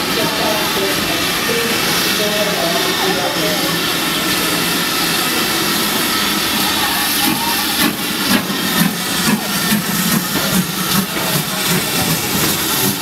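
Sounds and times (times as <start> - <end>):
steam hissing: 0.0 - 13.0
steam locomotive chuffing: 0.0 - 13.0.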